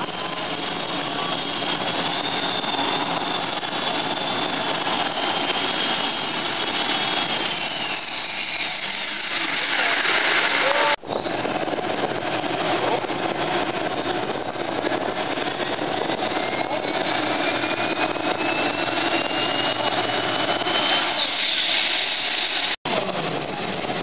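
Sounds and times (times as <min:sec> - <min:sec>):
high whine rising in pitch: 0:00.0 - 0:22.8.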